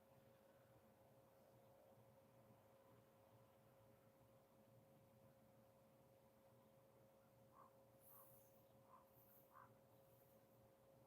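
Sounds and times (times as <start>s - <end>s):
faint background hiss: 0.0s - 11.0s
faint high hum: 0.0s - 11.0s.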